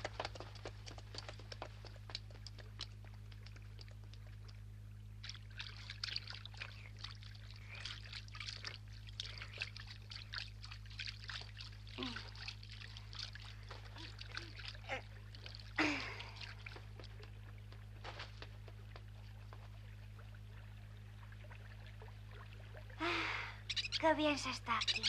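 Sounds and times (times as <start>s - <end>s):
steady low hum: 0.0s - 25.0s
water being lapped and slurped: 0.0s - 25.0s.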